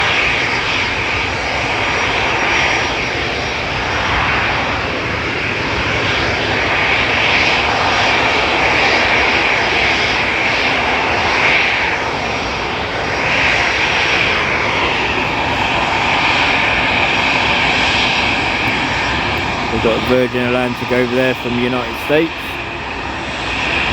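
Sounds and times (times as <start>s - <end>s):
jet engines roaring: 0.0s - 23.9s.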